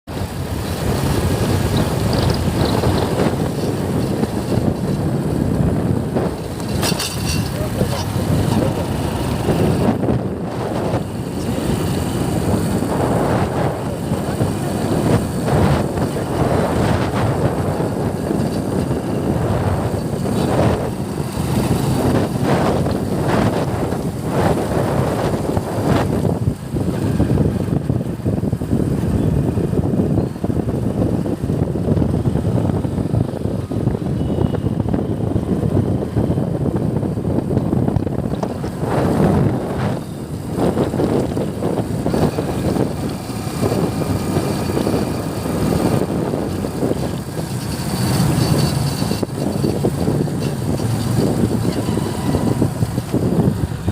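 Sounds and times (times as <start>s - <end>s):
vehicle and road rumble: 0.0s - 53.9s
wind buffeting microphone: 0.1s - 53.9s.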